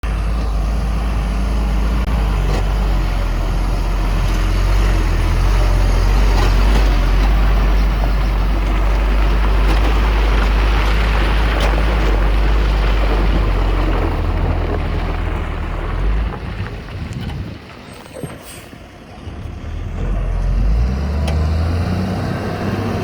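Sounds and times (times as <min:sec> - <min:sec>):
diesel earthmover engine rumble: 0:00.0 - 0:23.0.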